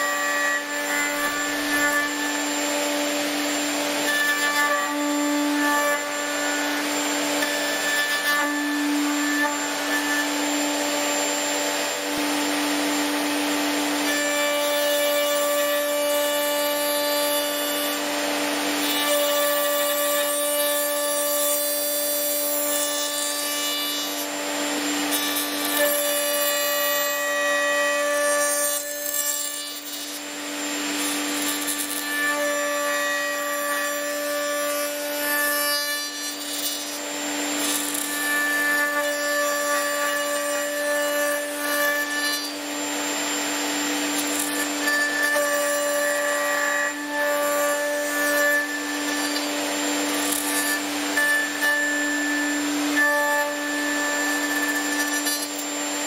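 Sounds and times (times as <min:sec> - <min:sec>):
electric router whining: 0:00.0 - 0:56.0.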